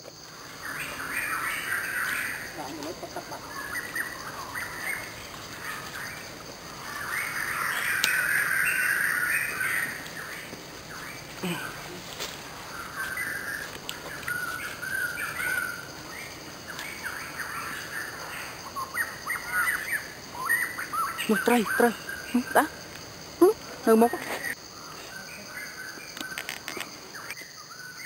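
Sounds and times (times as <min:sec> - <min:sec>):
birds chirping and calling: 0:00.3 - 0:28.0.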